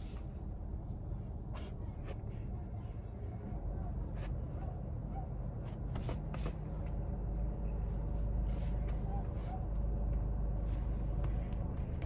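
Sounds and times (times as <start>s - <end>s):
car idling: 0.0s - 12.0s.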